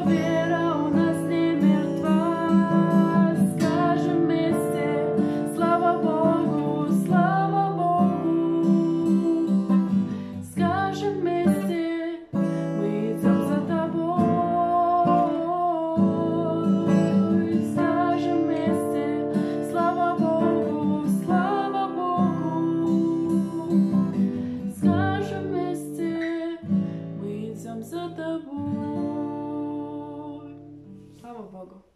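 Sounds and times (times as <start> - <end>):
strummed acoustic guitar: 0.0 - 31.6
woman singing: 0.0 - 31.9.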